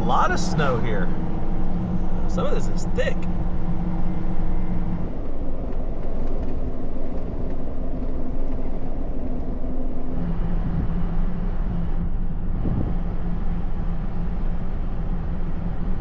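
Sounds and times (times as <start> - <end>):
car engine droning: 0.0 - 16.0
road rumble: 0.0 - 16.0.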